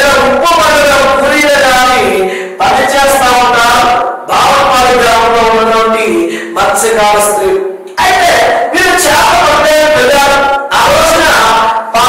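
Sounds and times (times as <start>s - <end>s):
man lecturing loudly: 0.0s - 12.0s.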